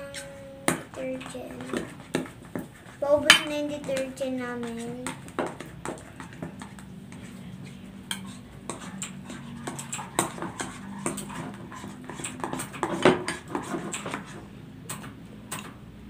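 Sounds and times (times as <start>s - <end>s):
spatulas knocking against bowls: 0.0s - 7.2s, 8.0s - 15.7s
spatulas scraping slime in bowls: 0.0s - 15.7s.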